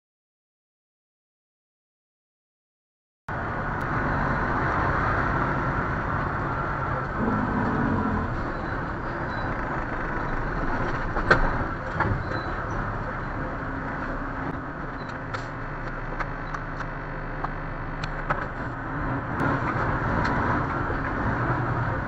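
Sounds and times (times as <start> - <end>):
truck engine and road rumble: 3.3 - 22.0.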